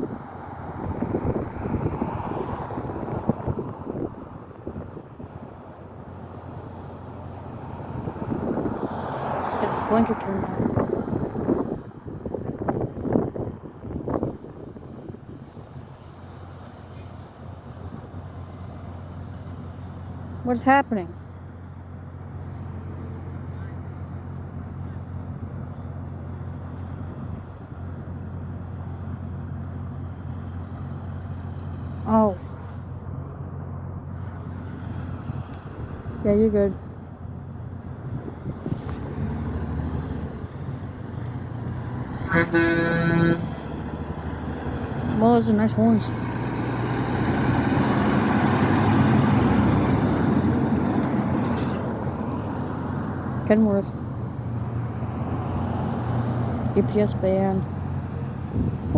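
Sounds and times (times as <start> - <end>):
heavy truck passing by: 0.0 - 58.9
road noise: 0.0 - 58.9
vehicle engine hum: 0.0 - 58.9.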